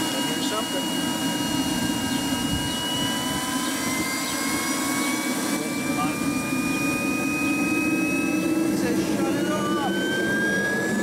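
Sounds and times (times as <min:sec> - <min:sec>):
jet turbine running: 0:00.0 - 0:11.0.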